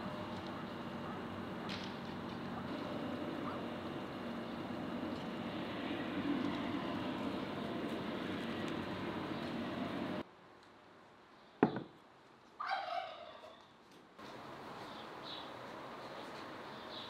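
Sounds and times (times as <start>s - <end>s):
steady noisy hiss: 0.0s - 12.6s, 14.0s - 17.0s.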